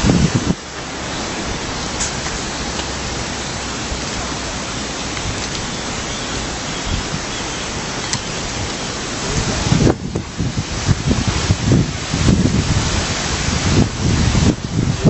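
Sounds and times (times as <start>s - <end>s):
water rushing in a stream: 0.0s - 15.0s.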